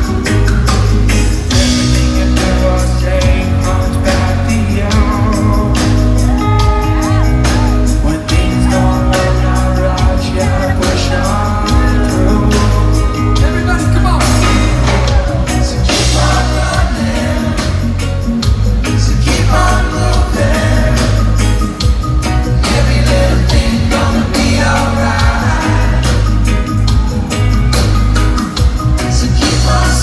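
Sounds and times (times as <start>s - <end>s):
man singing lead vocal: 0.0s - 27.9s, 28.6s - 30.0s
live reggae band playing: 0.0s - 30.0s.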